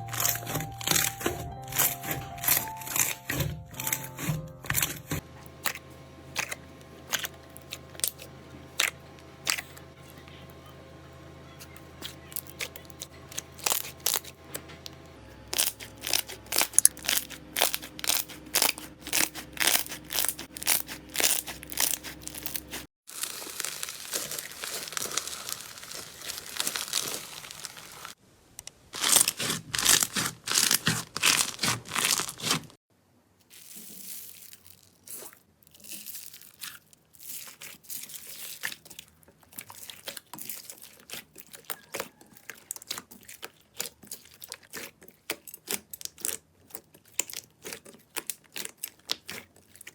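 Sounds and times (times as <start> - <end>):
slime crackling and popping: 0.0 - 5.8, 6.4 - 9.8, 12.3 - 14.4, 15.6 - 28.2, 29.0 - 32.8, 33.5 - 49.9
slime rustling: 0.0 - 9.9, 15.6 - 28.2, 28.8 - 32.8, 33.4 - 49.9
slime crunching: 0.0 - 10.3, 11.6 - 32.8, 33.4 - 49.9.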